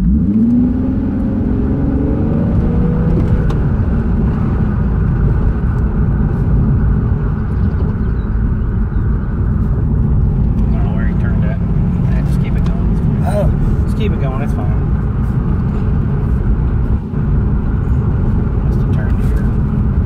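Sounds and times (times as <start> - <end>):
car engine accelerating: 0.0 - 20.0
road rumble: 0.0 - 20.0.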